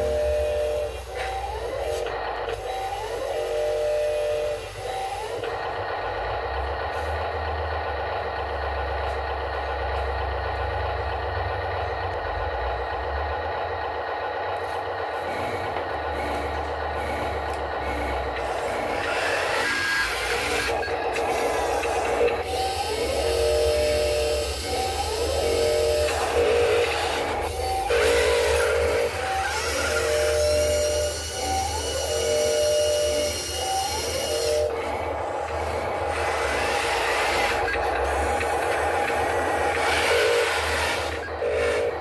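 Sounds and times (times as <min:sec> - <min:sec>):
diesel vehicle running: 0:00.0 - 0:42.0.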